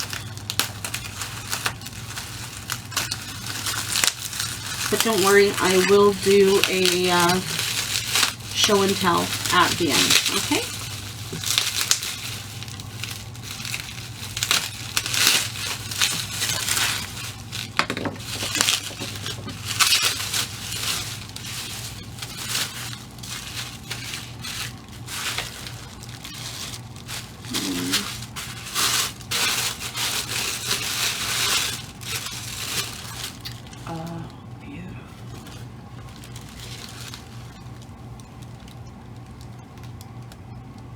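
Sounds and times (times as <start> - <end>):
plastic packaging crinkling and tearing: 0.0 - 34.3, 35.1 - 40.9.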